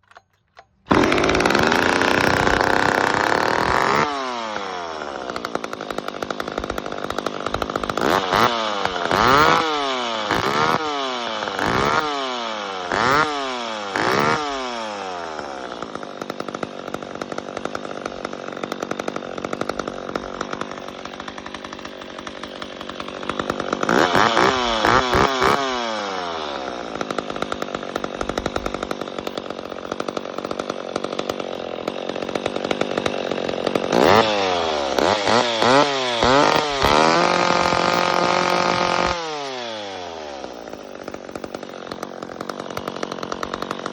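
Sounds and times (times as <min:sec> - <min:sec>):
chainsaw revving and idling: 0:00.0 - 0:43.9.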